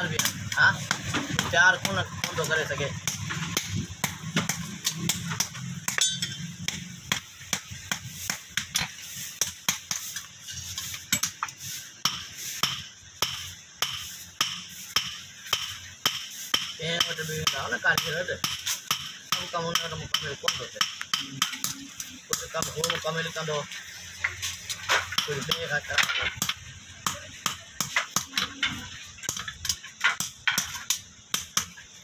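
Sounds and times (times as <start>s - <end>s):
hammer striking hot steel on anvil: 0.0s - 23.2s, 24.9s - 31.8s.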